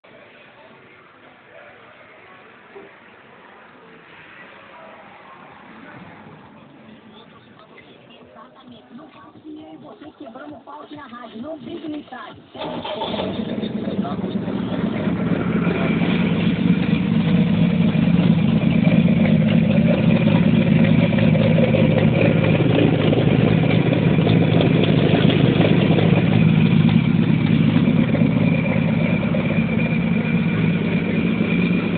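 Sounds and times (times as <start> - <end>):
car engine rumbling: 2.4 - 31.9.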